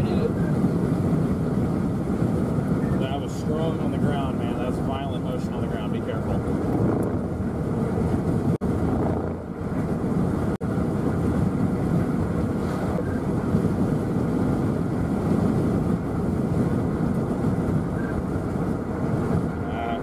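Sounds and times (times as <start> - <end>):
vehicle road and wind noise: 0.0 - 20.0.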